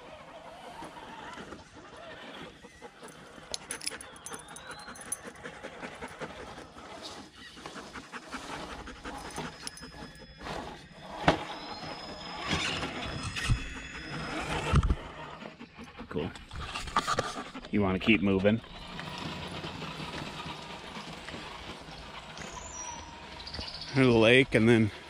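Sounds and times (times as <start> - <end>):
dog panting: 1.7 - 10.9, 13.6 - 25.0.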